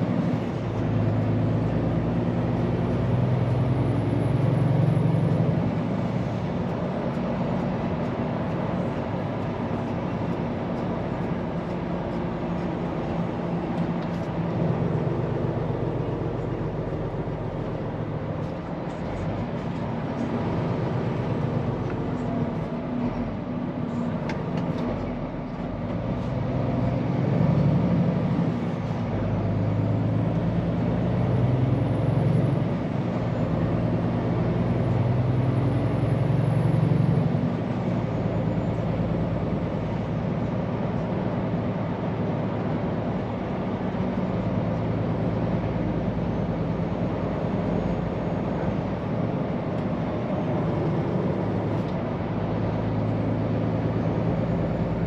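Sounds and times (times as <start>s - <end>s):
road noise: 0.0s - 55.0s
truck diesel engine running: 0.0s - 55.0s.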